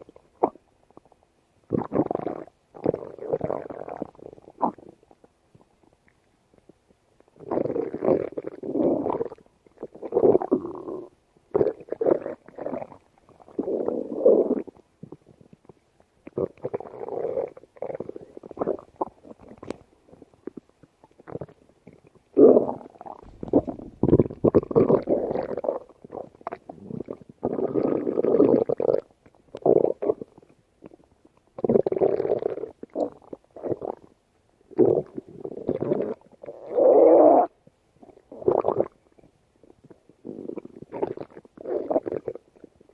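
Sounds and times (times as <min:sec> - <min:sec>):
stomach growling: 0:00.0 - 0:05.9, 0:06.5 - 0:34.1, 0:34.7 - 0:42.9.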